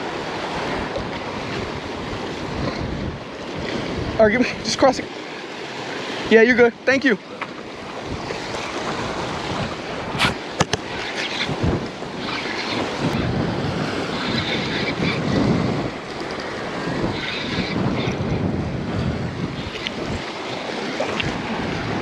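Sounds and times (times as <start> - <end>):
wind buffeting microphone: 0.0 - 5.1, 7.6 - 22.0
waves washing against rocks: 0.0 - 22.0.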